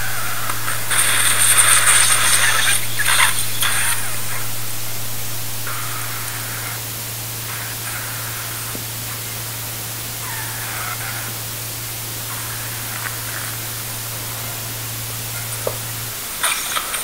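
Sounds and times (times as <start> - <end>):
faint higher tones: 0.0 - 16.2
low hum: 0.0 - 16.4
steady hiss: 0.0 - 17.0.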